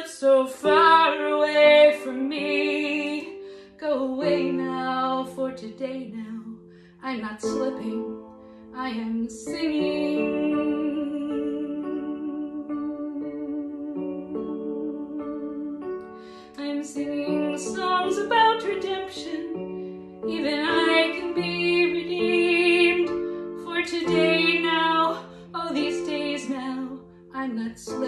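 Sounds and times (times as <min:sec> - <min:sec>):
woman singing with vibrato: 0:00.0 - 0:15.9, 0:16.5 - 0:28.0.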